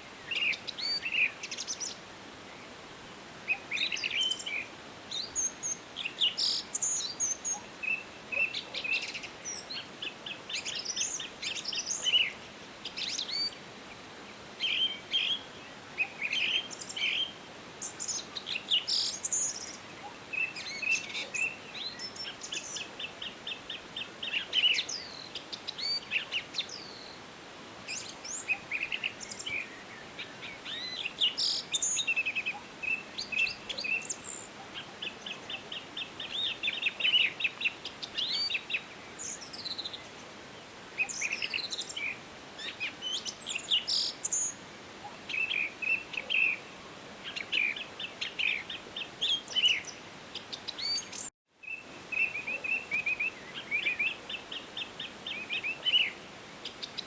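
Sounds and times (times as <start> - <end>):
songbirds singing and calling: 0.0 - 2.8, 3.4 - 57.0
faint steady hiss: 0.0 - 57.0.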